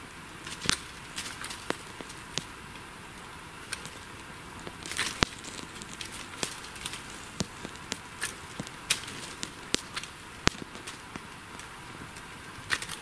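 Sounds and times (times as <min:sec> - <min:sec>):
campfire crackling and popping: 0:00.0 - 0:13.0
fire hissing: 0:00.0 - 0:13.0.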